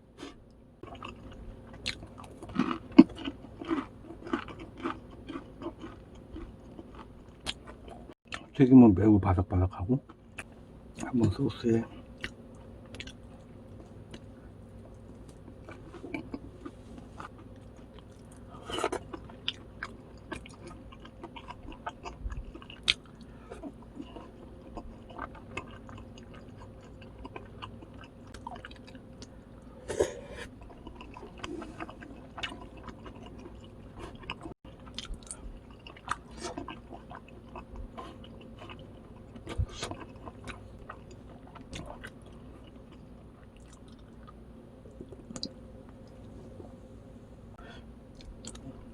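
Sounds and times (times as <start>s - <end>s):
chewing crispy fried chicken: 0.2s - 8.6s, 12.0s - 29.4s, 30.5s - 46.2s.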